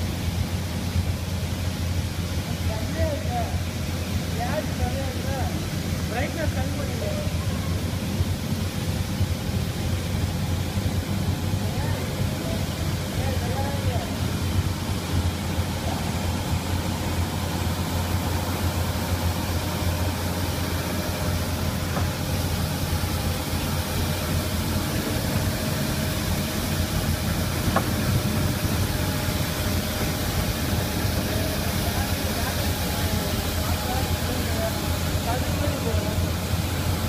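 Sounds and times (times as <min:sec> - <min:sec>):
peeling machine humming: 0:00.0 - 0:37.0.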